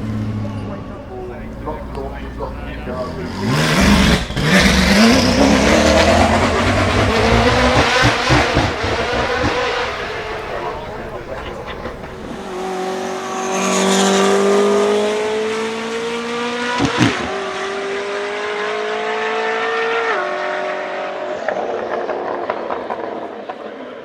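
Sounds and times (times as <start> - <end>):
car engine accelerating hard: 0.0 - 23.6.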